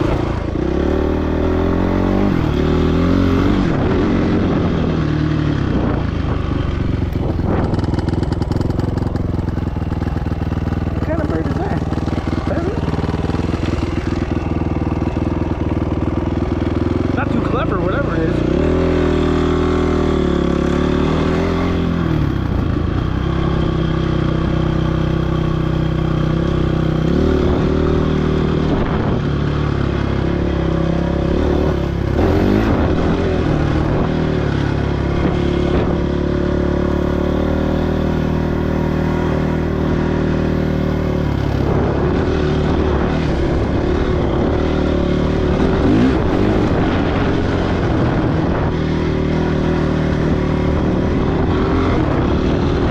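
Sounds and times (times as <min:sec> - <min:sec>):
dirt bike engine running: 0:00.0 - 0:52.9.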